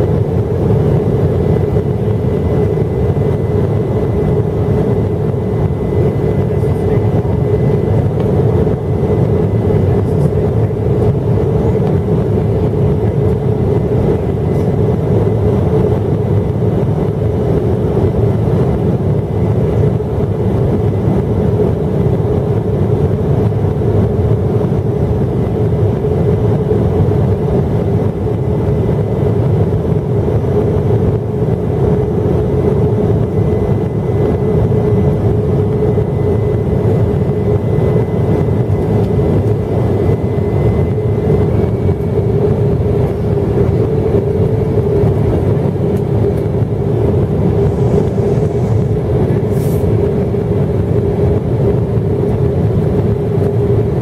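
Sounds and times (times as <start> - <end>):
airliner cabin engine drone: 0.0 - 54.0.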